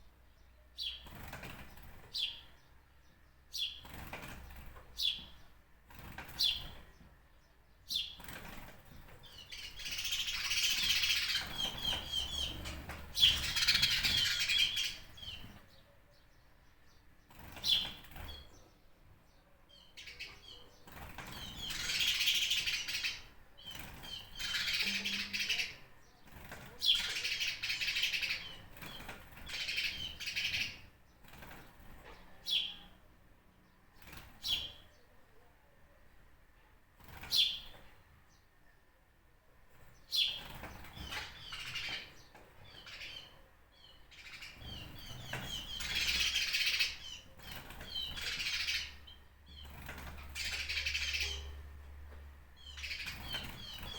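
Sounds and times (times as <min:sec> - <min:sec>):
birds chirping and twittering: 0:00.0 - 0:38.9, 0:39.6 - 0:53.9.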